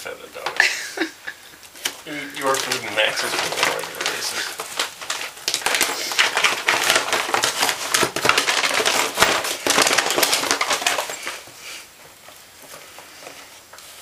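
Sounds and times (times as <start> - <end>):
food bag crinkling: 0.4 - 14.0.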